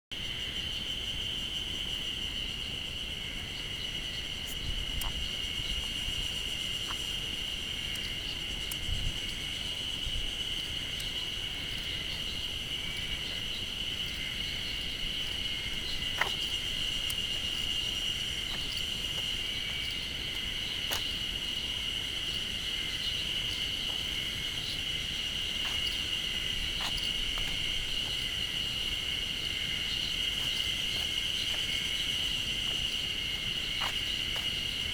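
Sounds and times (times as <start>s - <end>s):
insect chorus drone: 0.1s - 34.9s.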